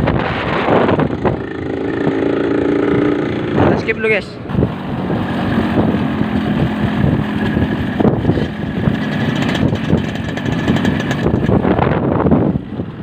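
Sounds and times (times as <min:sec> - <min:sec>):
wind buffeting microphone: 0:00.0 - 0:13.0
two-stroke motorcycle engine running: 0:00.2 - 0:13.0.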